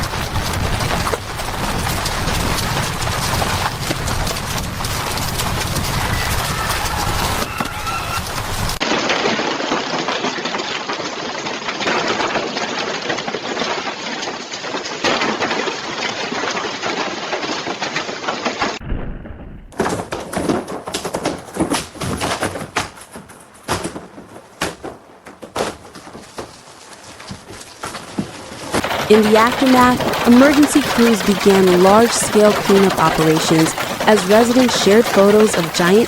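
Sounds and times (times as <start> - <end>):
hailstones clattering: 0.0 - 36.0.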